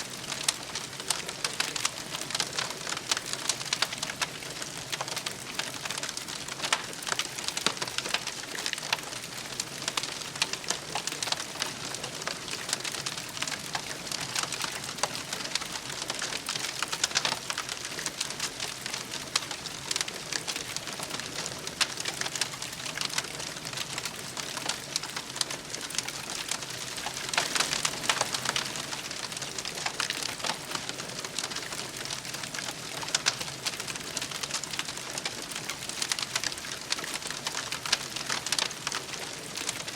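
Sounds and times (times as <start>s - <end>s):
campfire crackling and popping: 0.1s - 39.9s.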